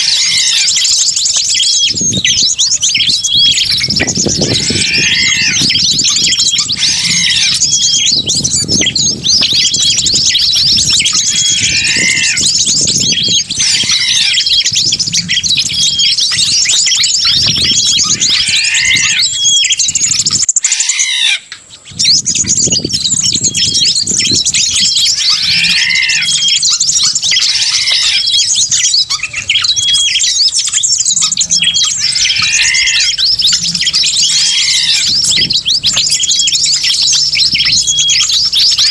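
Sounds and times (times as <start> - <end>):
many small birds chirping: 0.0 - 38.9
repeated bird call phrase: 0.0 - 38.9.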